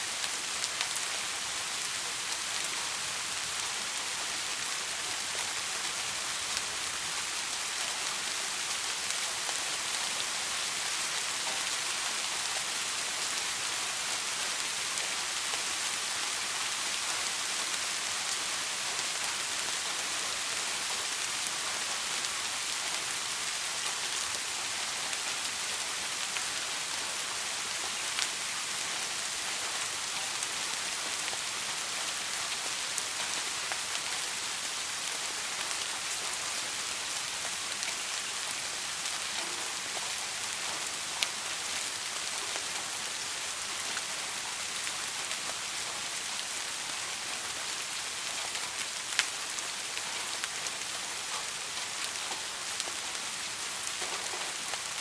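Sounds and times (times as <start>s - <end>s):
soft steady rain: 0.0s - 55.0s.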